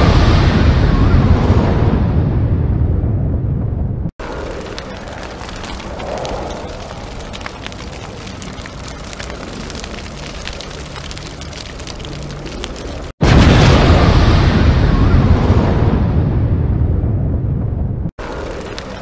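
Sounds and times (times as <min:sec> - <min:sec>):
low rumble with dense crackling: 0:00.0 - 0:19.0.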